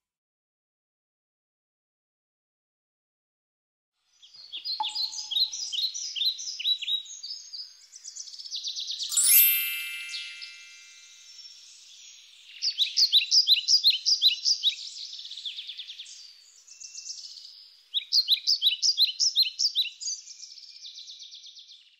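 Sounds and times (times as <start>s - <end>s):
songbird chirping: 4.2s - 21.9s.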